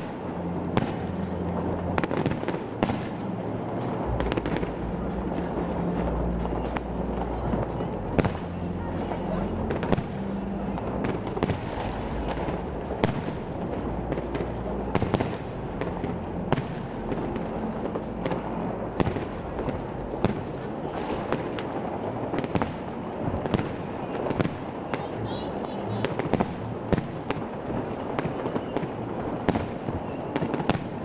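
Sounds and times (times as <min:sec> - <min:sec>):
low rumble: 0:00.0 - 0:28.2
fireworks bursting bangs: 0:00.0 - 0:31.0.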